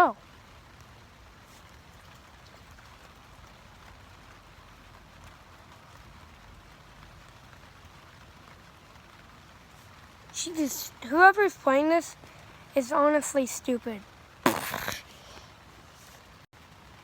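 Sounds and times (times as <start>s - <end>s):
rain pattering on a tent: 0.0s - 17.0s.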